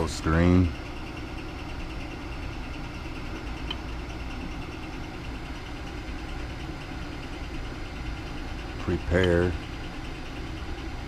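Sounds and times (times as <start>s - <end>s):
printer cooling fans humming: 0.0s - 11.0s.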